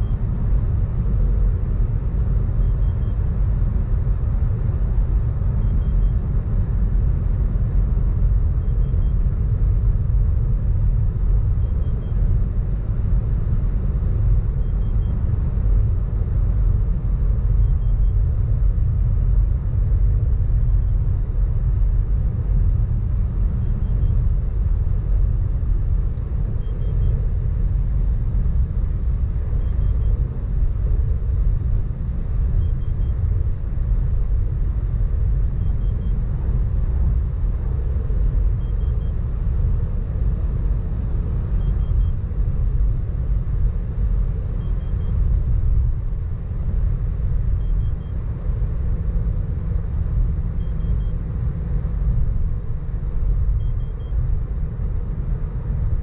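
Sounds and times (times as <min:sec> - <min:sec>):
engine and road rumble: 0:00.0 - 0:56.0.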